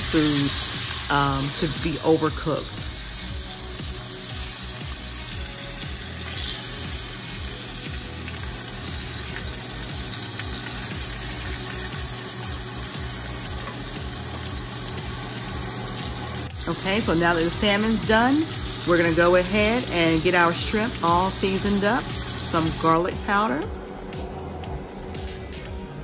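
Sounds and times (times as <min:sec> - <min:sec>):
fish sizzling in a skillet: 0:00.0 - 0:23.0.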